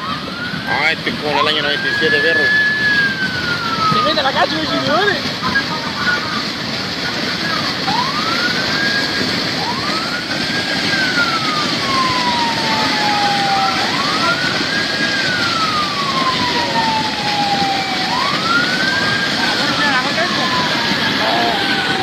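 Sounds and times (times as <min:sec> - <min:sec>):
flood torrent rushing: 0:00.0 - 0:22.0
siren wailing: 0:00.0 - 0:22.0.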